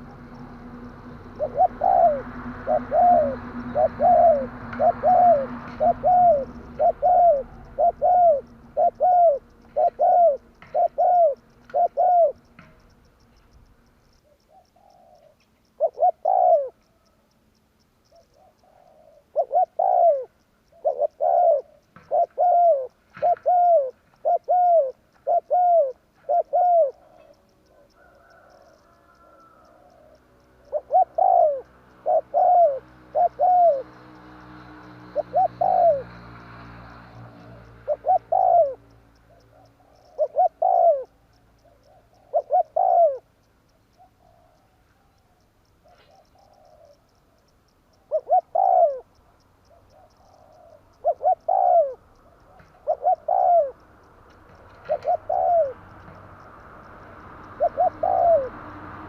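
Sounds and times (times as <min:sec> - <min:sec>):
dove cooing: 0:00.0 - 0:13.0, 0:14.2 - 0:17.2, 0:18.0 - 0:43.3, 0:44.0 - 0:45.2, 0:45.8 - 0:47.4, 0:48.0 - 0:53.9, 0:54.5 - 0:56.2, 0:57.1 - 0:59.0.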